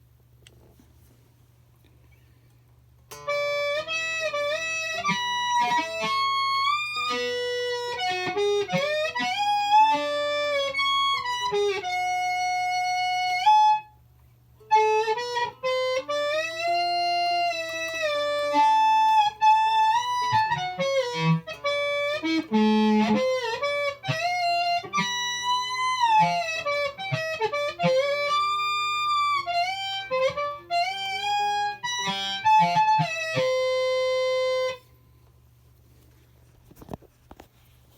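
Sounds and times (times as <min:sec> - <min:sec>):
fuzzy electric guitar notes: 0:03.1 - 0:13.9, 0:14.6 - 0:34.9.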